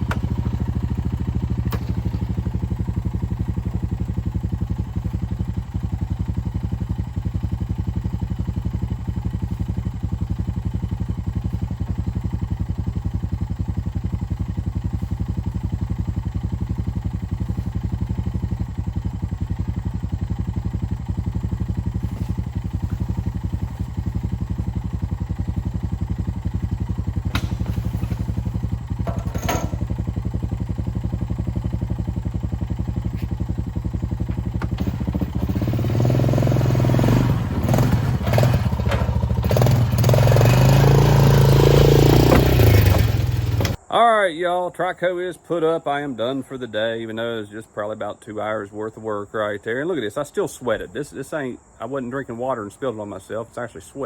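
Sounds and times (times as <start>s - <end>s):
mini excavator engine running: 0.0s - 43.9s.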